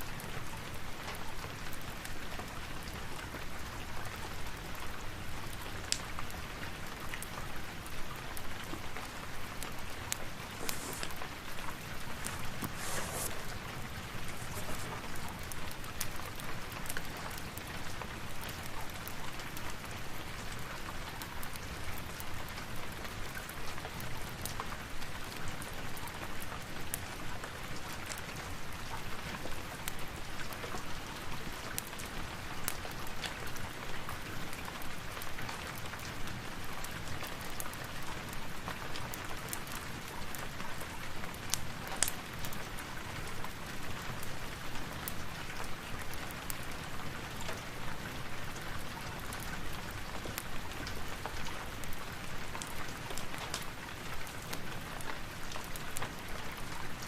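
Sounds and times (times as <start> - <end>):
steady rain: 0.0 - 57.0
log fire crackling: 0.1 - 57.0.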